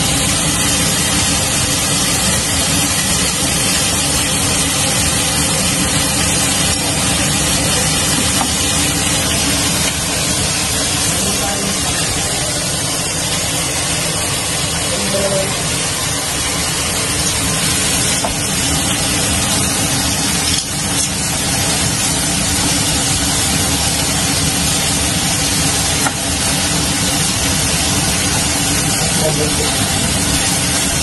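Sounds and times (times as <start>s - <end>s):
kitchen cooking hiss: 0.0s - 31.0s.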